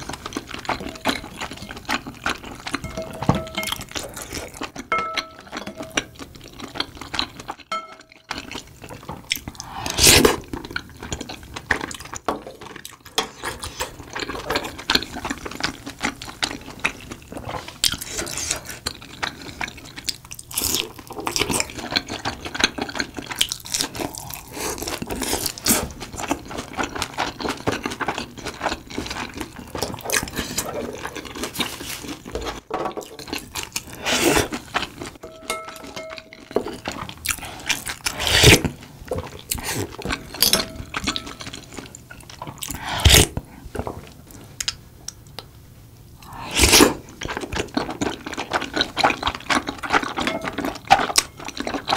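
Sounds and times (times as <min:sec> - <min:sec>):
wet chewing and slurping: 0:00.0 - 0:44.8, 0:46.2 - 0:51.9.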